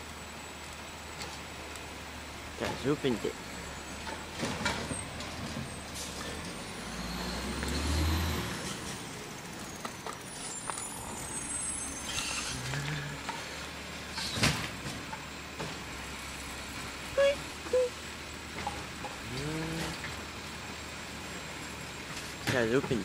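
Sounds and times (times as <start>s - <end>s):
garbage truck engine running: 0.0s - 23.0s.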